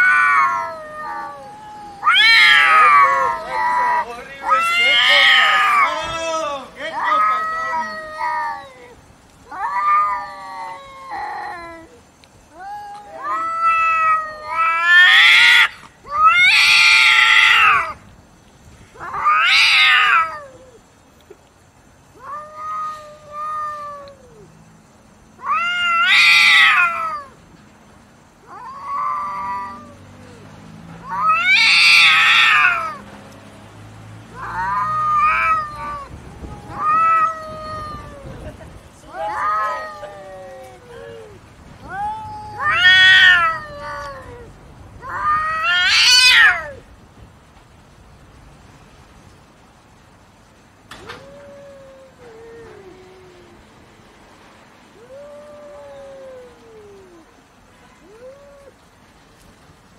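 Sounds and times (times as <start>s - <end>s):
cats yowling: 0.0s - 18.0s, 18.9s - 21.4s, 22.0s - 27.4s, 28.4s - 33.1s, 34.2s - 46.9s, 50.9s - 53.9s, 54.8s - 59.0s.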